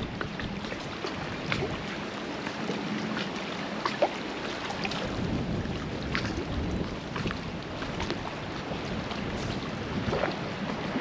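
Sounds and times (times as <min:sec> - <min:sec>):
faint water ticks: 0:00.0 - 0:11.0
waves lapping against shore: 0:00.0 - 0:11.0.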